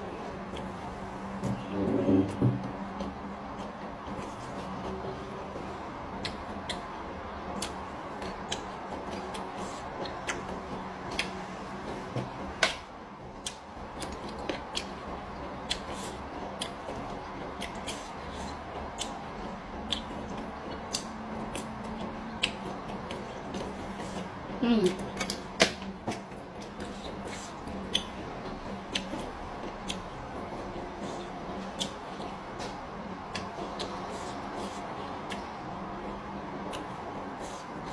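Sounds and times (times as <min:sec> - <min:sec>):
steady background hum: 0:00.0 - 0:37.9.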